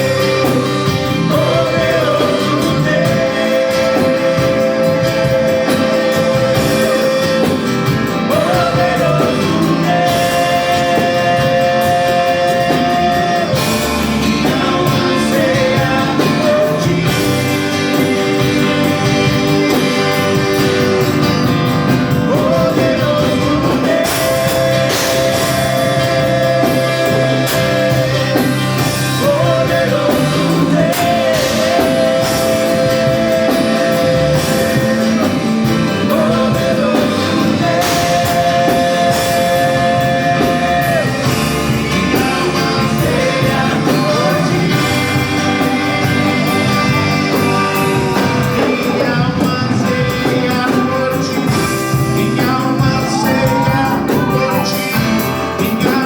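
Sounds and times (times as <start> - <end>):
person singing long notes: 0.0 - 55.0
instrumental backing music: 0.0 - 56.0.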